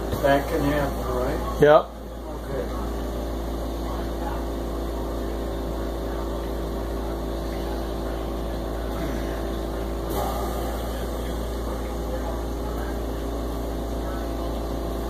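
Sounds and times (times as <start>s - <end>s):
oxygen concentrator humming: 0.0s - 15.0s.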